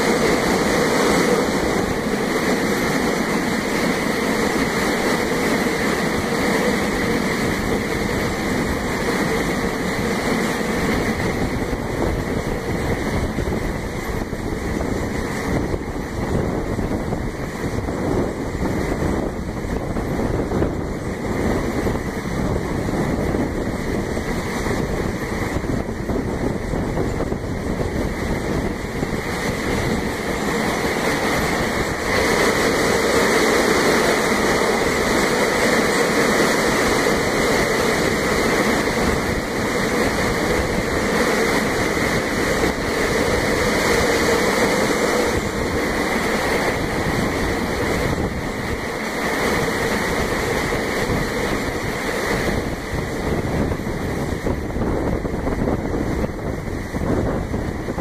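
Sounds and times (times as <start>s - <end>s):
train wheels rumbling on rail: 0.0s - 58.0s
wind on microphone: 0.0s - 58.0s.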